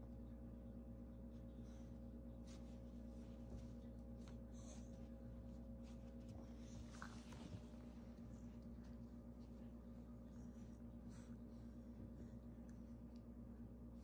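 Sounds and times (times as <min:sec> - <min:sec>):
steady low hum: 0:00.0 - 0:14.0
puppies scuffling on a rug: 0:01.3 - 0:12.7.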